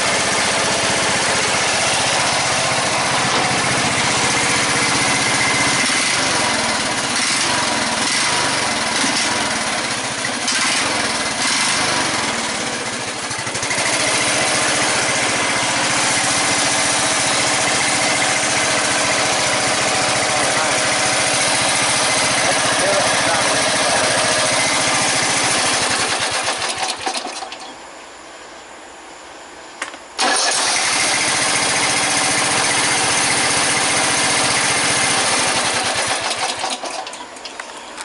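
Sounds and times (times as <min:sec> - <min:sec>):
lawn tractor engine running: 0:00.0 - 0:27.8, 0:30.2 - 0:38.0.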